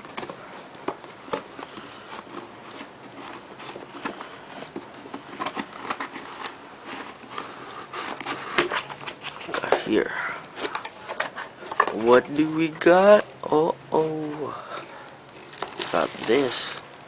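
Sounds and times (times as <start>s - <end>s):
packaging rustling and crinkling: 0.0s - 13.2s, 14.0s - 17.0s.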